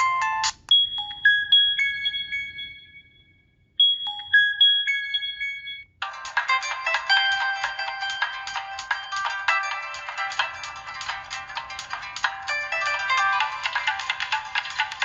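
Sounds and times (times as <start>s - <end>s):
chime-like phone ringtone: 0.0s - 14.3s.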